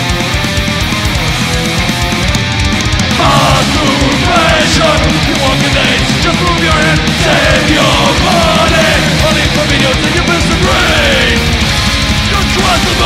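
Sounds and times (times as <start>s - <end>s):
distorted electric guitars: 0.0s - 13.0s
fast dense drumming: 0.0s - 13.0s.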